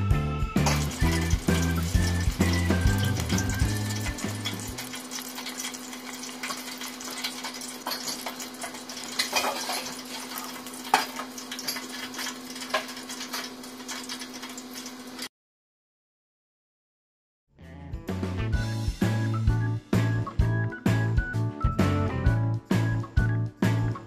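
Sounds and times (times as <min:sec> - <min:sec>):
deep frying sizzle with pops: 0:00.0 - 0:15.3, 0:19.0 - 0:24.0.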